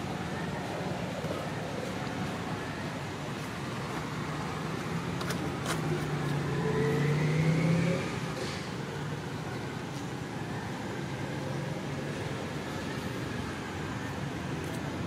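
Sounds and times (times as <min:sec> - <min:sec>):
vehicle engine with rising whine: 0:00.0 - 0:15.0.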